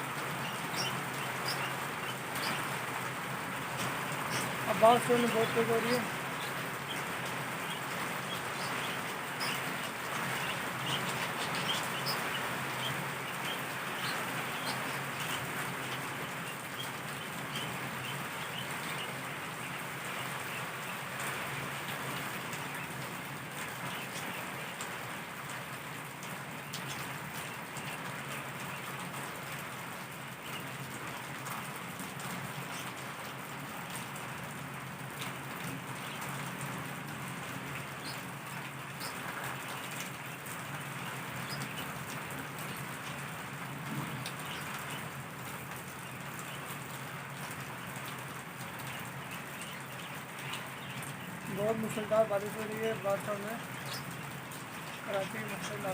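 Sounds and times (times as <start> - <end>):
heavy rain hissing: 0.0 - 55.9
raindrop splash ticks: 0.1 - 55.9.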